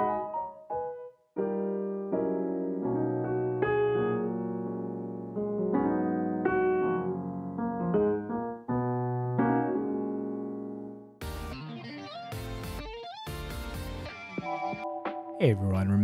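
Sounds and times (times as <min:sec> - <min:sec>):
piano chords and notes: 0:00.0 - 0:16.0.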